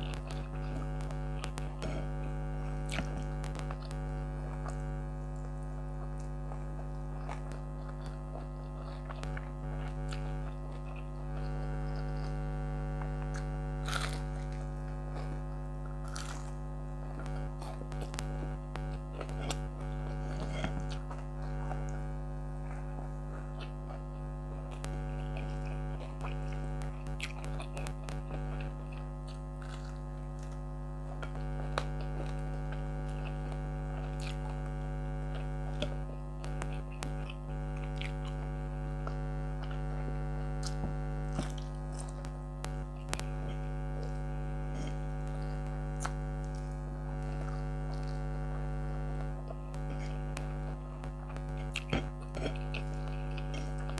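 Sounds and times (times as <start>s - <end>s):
air conditioner humming: 0.0s - 53.9s
chewing and eating clicks: 0.0s - 53.9s.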